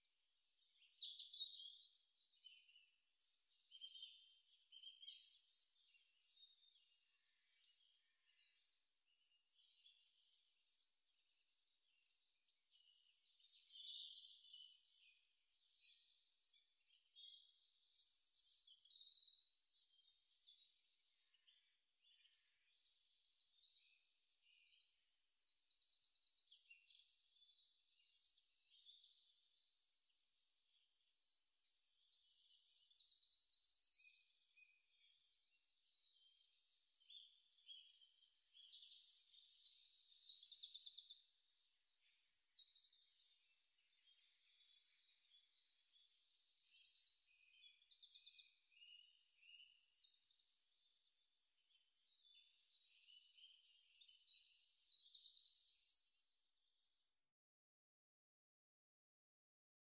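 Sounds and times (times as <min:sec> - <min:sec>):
birds chirping and trilling: 0:00.2 - 0:57.2.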